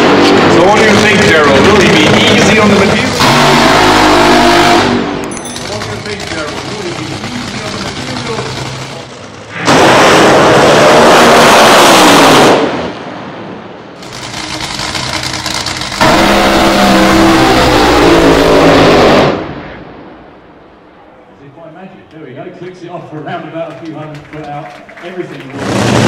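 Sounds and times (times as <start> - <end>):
dragster engine blasts: 0.0 - 20.2, 25.3 - 26.0
lower engine noise: 0.0 - 26.0.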